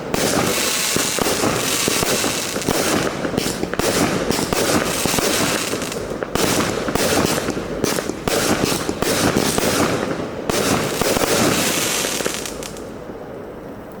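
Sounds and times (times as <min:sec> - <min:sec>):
firework bangs: 0:00.0 - 0:12.9.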